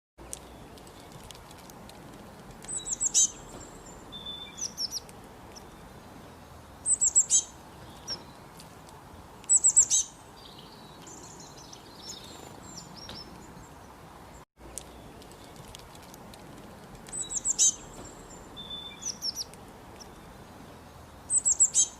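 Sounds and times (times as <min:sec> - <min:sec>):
small birds chirping: 0:00.2 - 0:21.9.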